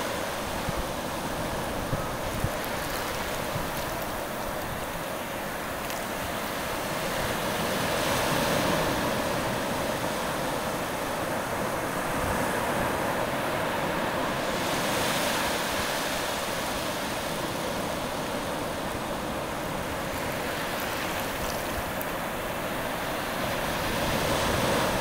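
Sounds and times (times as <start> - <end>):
surf washing over sand: 0.0 - 25.0.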